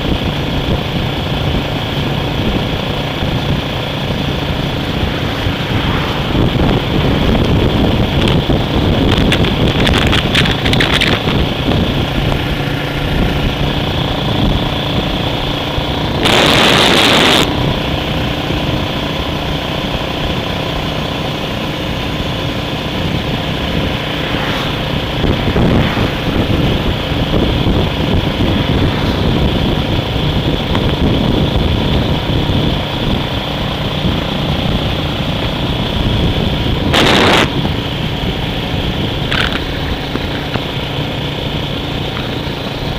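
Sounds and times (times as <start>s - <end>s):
road and wind noise: 0.0s - 42.9s
vehicle engine running: 0.0s - 42.9s.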